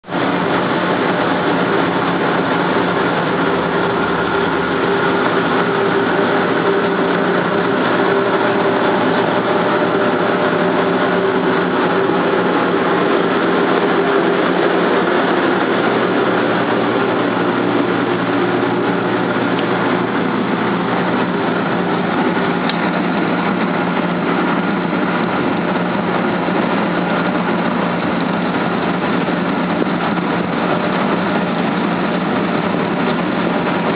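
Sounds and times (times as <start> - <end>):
boat engine running: 0.0 - 33.9
rushing noise: 0.1 - 33.9.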